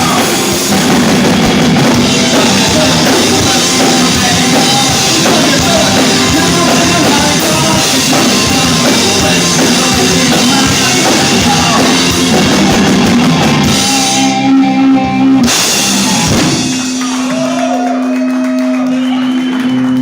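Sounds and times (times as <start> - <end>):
sliding guitar tones: 0.0 - 17.0
live rock band playing: 0.0 - 17.6.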